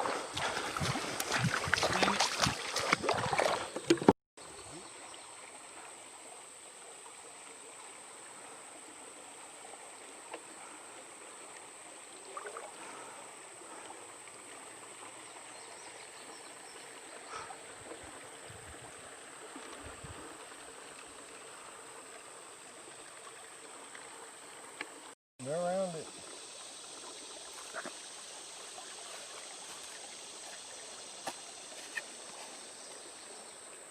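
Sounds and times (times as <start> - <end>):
river water flowing and trickling: 0.0 - 33.9.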